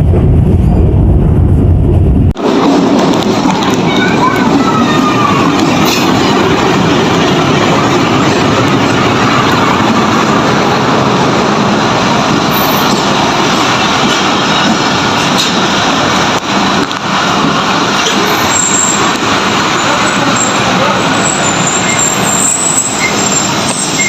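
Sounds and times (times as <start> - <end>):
train wheel and carriage noise: 2.3 - 24.0.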